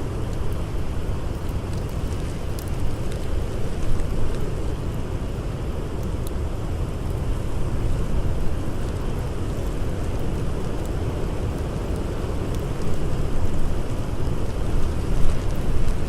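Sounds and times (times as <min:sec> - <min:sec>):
blizzard wind howling: 0:00.0 - 0:16.0
faint campfire crackles: 0:00.0 - 0:16.0.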